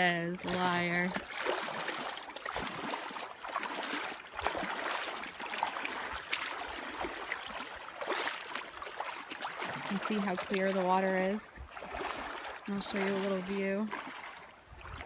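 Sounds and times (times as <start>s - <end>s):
small water splashes: 0.0s - 15.0s.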